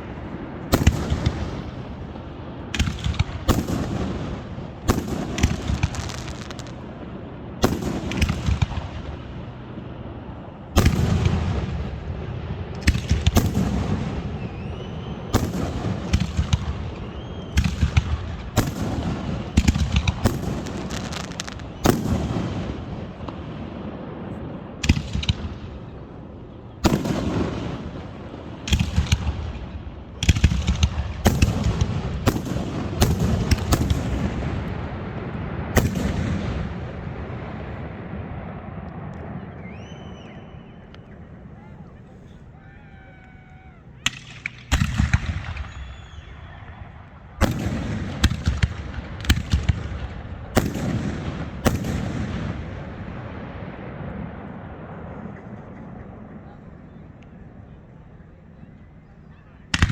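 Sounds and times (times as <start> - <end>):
fireworks crackling: 0.0 - 39.4, 40.9 - 56.6
fireworks bangs with echo: 0.0 - 42.7, 44.0 - 57.8, 59.7 - 59.9.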